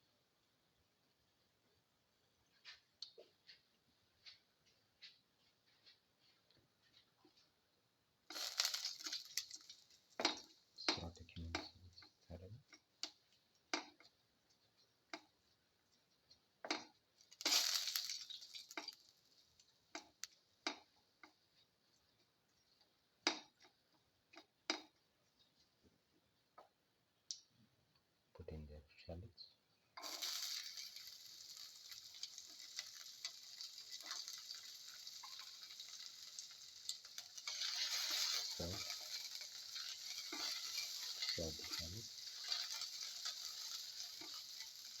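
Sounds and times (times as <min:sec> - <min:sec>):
seeds sizzling in oil: 0:01.2 - 0:25.7, 0:29.9 - 0:45.0.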